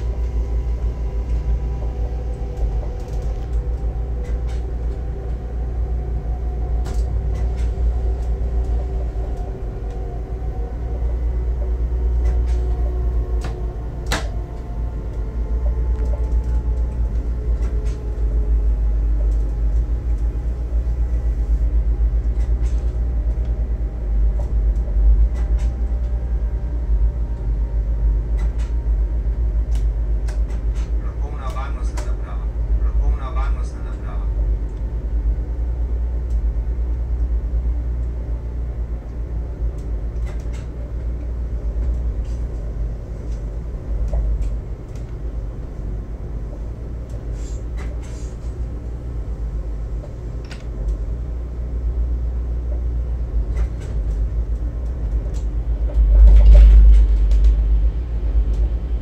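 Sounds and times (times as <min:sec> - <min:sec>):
faint whine: 0:00.0 - 0:59.0
train rumbling on track: 0:00.0 - 0:59.0.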